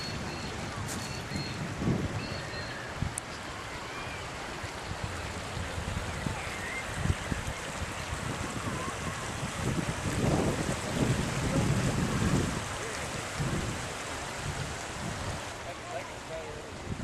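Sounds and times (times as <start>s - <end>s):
wind buffeting microphone: 0.0s - 15.6s, 16.7s - 17.0s
floodwater rushing: 0.0s - 17.0s.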